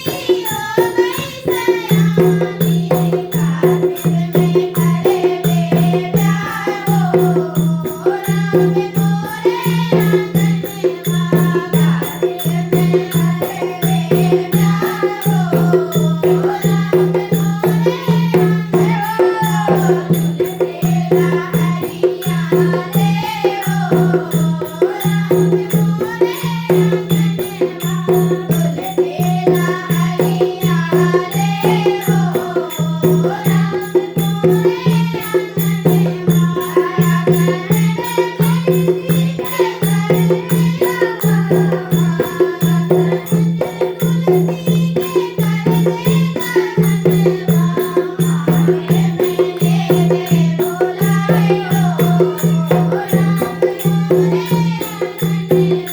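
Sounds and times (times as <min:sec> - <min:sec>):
person singing devotional song: 0:00.0 - 0:55.9
rattling percussion beat: 0:00.0 - 0:55.9.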